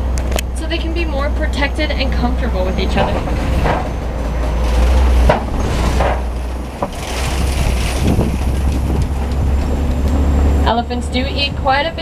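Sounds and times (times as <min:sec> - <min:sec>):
truck driving rumble: 0:00.0 - 0:12.0
vehicle rattling and knocking: 0:00.0 - 0:12.0.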